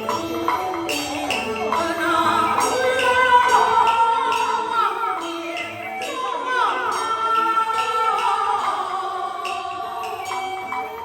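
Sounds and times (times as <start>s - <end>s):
instrumental accompaniment: 0.0s - 11.0s
metal percussion strokes: 0.0s - 11.0s
person singing opera: 1.7s - 11.0s.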